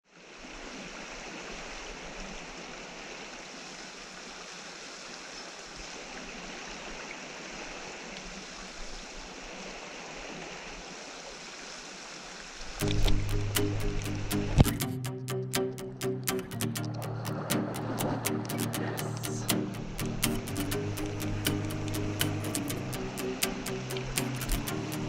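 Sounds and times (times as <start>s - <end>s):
river water flowing: 0.1s - 25.0s.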